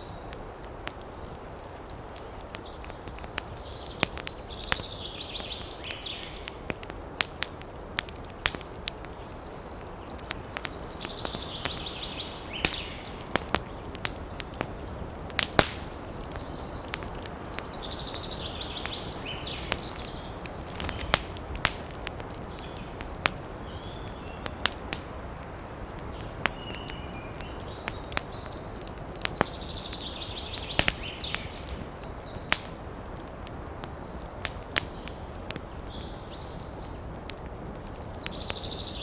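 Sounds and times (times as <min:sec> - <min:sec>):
burning wood popping: 0:00.0 - 0:39.0
campfire crackling: 0:00.0 - 0:39.0
wind in the trees: 0:00.0 - 0:39.0.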